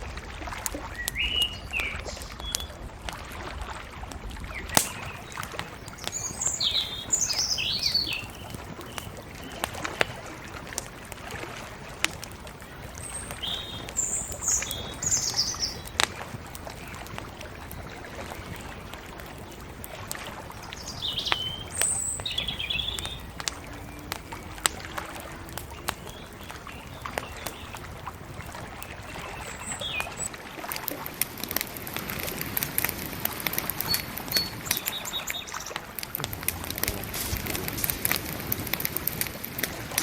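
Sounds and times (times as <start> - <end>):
bonfire crackling: 0.0 - 40.0
small birds chirping: 0.9 - 2.8, 4.4 - 11.1, 11.9 - 40.0.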